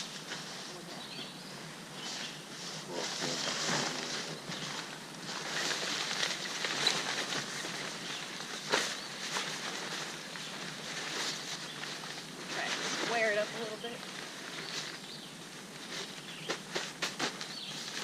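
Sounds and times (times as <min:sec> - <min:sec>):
tent fabric rustling and scraping: 0:00.0 - 0:18.0.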